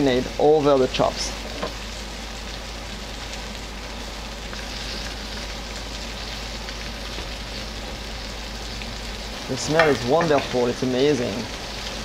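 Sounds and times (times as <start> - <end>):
meat sizzling on a grill pan: 0.0 - 12.0.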